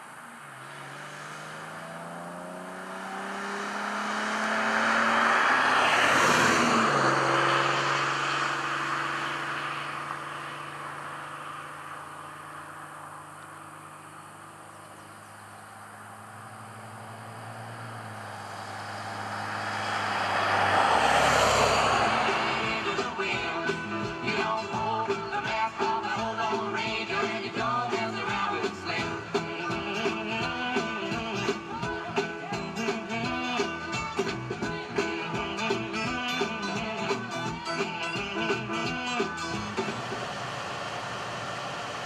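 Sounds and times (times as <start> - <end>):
vehicle passing on highway: 0.0 - 31.8, 32.9 - 42.0
traffic noise: 0.0 - 42.0.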